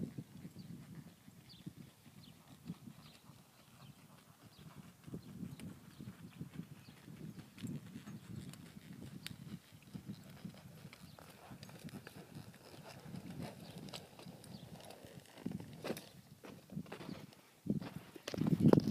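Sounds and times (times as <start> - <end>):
horse hoofbeats on soft dirt: 0.0 - 18.9.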